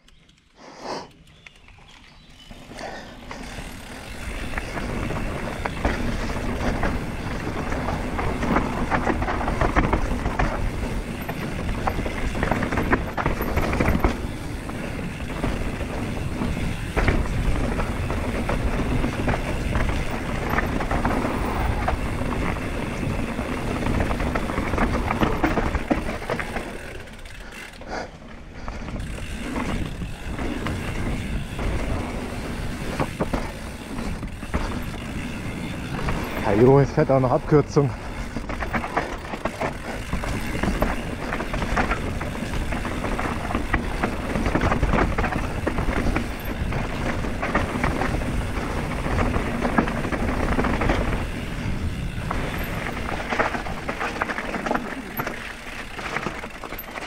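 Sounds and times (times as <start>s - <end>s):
bike tyres rolling over dirt: 1.1s - 57.0s
bike rattling over bumps: 1.2s - 57.0s.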